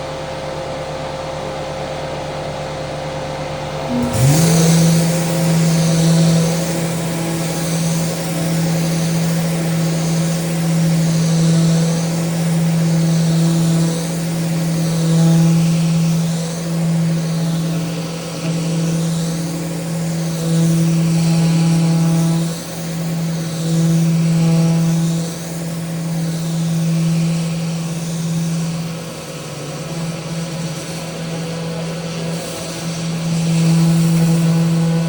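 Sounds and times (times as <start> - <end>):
power sander on wood: 3.8 - 35.0.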